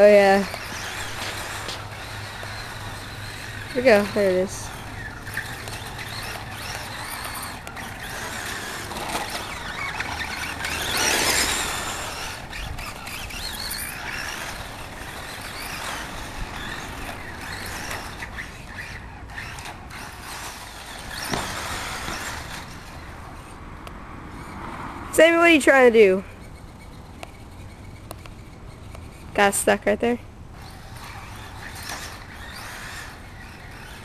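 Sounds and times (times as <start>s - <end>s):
electric rc car motor revving: 0.0s - 34.0s.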